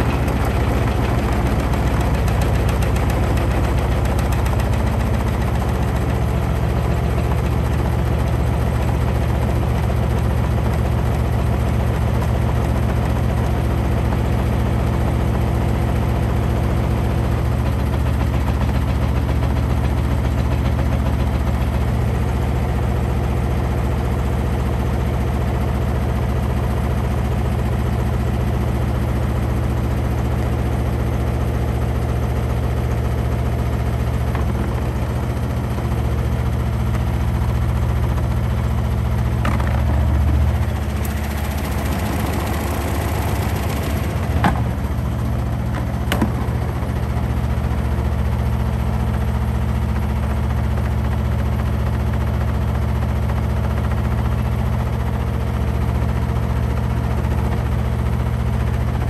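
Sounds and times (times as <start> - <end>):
washing machine spinning: 0.0 - 23.4, 26.3 - 51.4.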